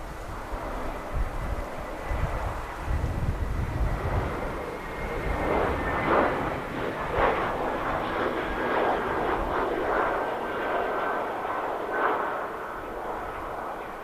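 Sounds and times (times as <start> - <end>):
airliner engines roaring: 0.0 - 14.0.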